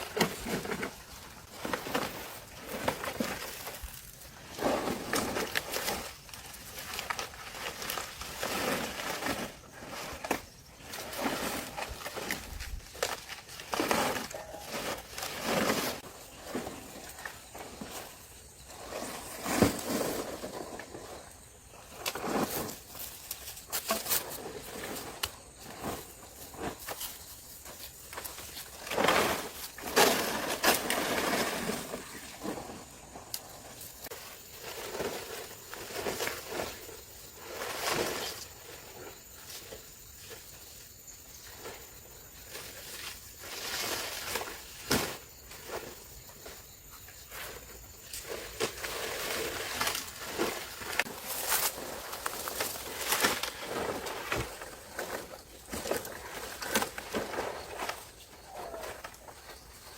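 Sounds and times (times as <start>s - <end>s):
rustling and scraping handling noises: 0.0s - 59.9s.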